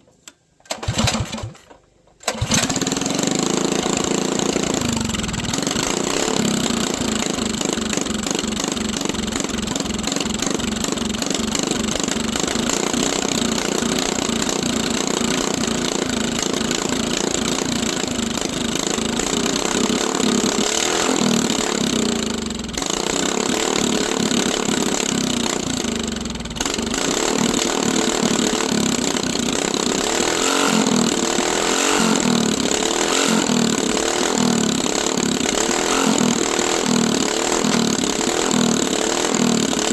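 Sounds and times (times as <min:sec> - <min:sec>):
small bike engine running: 0:00.8 - 0:01.6, 0:02.3 - 0:39.9.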